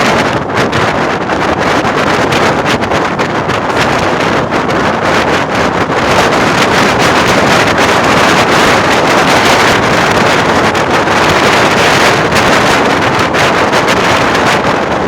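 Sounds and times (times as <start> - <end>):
bus diesel engine rumbling: 0.0 - 15.0
wind buffeting microphone: 0.0 - 15.0.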